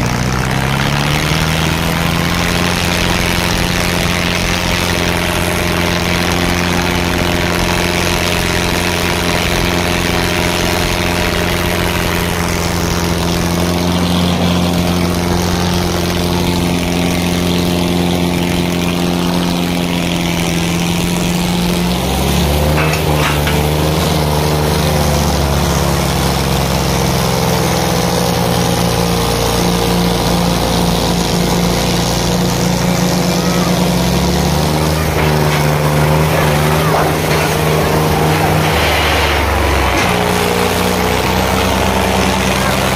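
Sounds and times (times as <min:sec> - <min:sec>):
diesel tractor engine running: 0:00.0 - 0:42.9.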